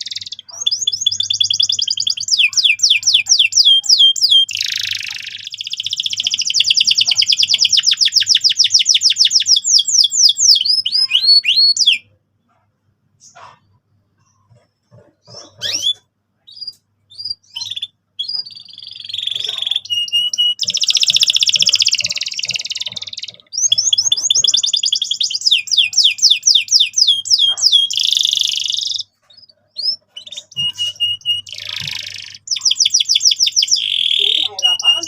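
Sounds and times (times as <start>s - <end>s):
canary singing: 0.0s - 12.6s, 13.2s - 35.0s.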